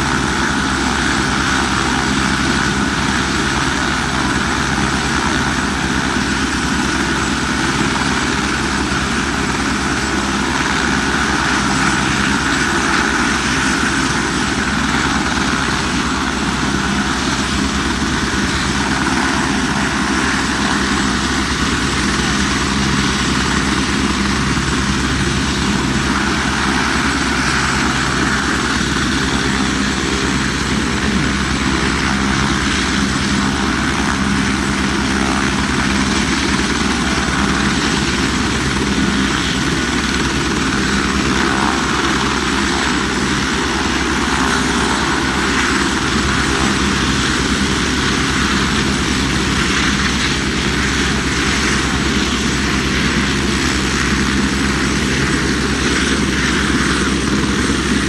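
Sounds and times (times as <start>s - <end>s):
helicopter high whine: 0.0s - 58.0s
helicopter rotor blades beating: 0.0s - 58.0s.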